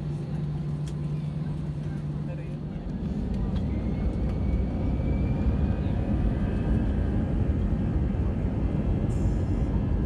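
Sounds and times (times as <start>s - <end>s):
faint engine whine: 0.0s - 10.0s
jet engine and runway rumble: 0.0s - 10.0s.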